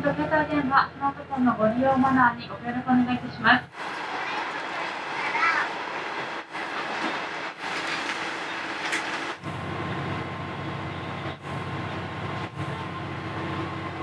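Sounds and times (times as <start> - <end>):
railcar engine hum: 0.0 - 14.0
wheels rumbling on rail: 0.0 - 14.0.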